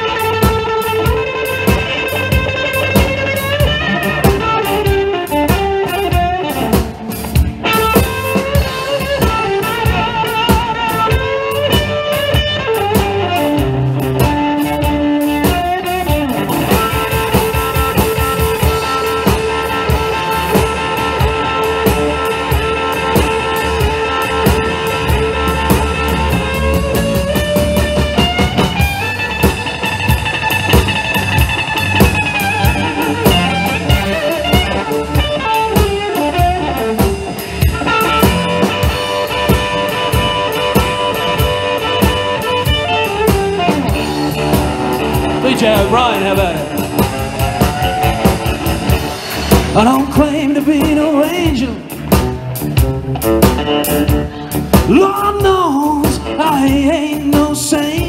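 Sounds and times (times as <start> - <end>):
drum kit: 0.0 - 58.0
electric guitar lead: 0.0 - 58.0.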